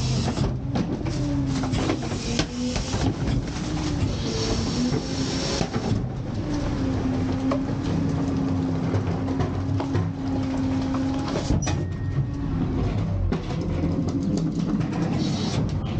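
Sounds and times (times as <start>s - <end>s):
hydraulic whine: 0.0s - 13.6s.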